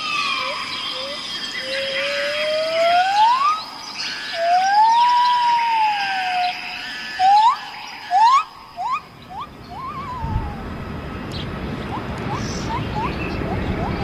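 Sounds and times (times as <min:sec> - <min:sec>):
birds twittering: 0:00.0 - 0:14.0
birds whistling: 0:00.0 - 0:14.0.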